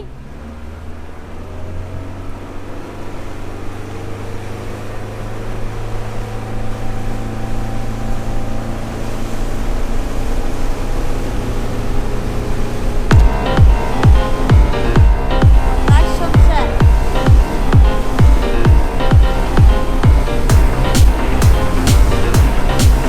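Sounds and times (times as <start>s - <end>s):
small boat engine running: 0.0s - 23.0s
wind and water wash: 0.0s - 23.0s.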